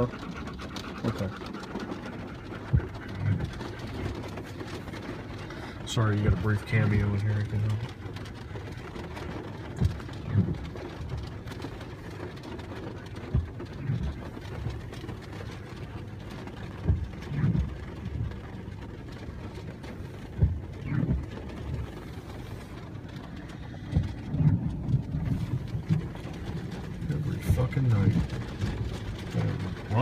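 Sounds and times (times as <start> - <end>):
vehicle rumble: 0.0 - 30.0.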